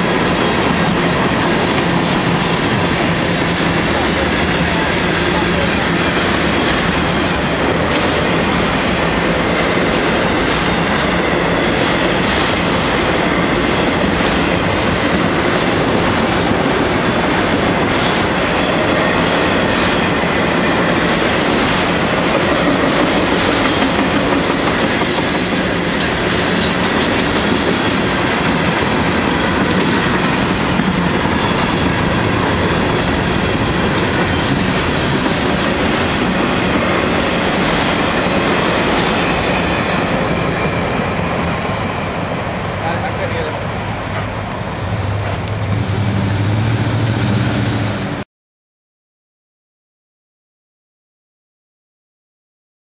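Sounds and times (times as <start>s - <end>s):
train wheels rumbling on rail: 0.0s - 48.2s.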